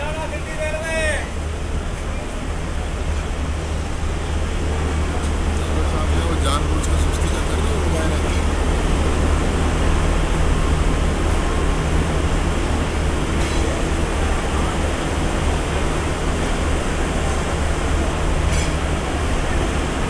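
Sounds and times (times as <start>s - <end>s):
low engine hum: 0.0s - 20.0s
steady rushing noise: 0.0s - 20.0s.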